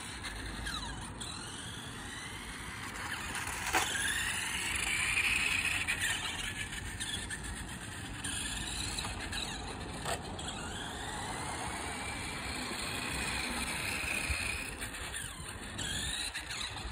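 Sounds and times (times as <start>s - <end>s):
electric motor whining: 0.0s - 16.9s.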